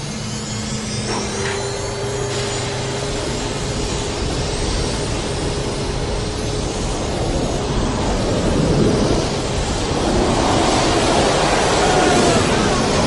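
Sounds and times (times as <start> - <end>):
jet engine whine: 0.0 - 13.0
jet engines rushing: 0.0 - 13.0.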